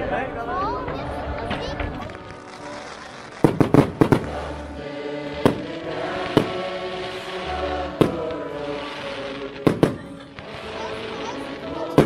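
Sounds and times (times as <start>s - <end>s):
music with long held notes: 0.8s - 12.0s
fireworks bangs: 1.5s - 12.0s.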